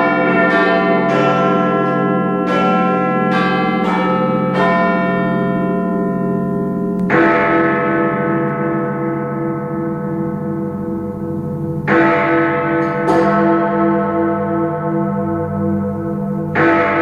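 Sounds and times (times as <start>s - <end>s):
clock tower bells ringing: 0.0s - 17.0s.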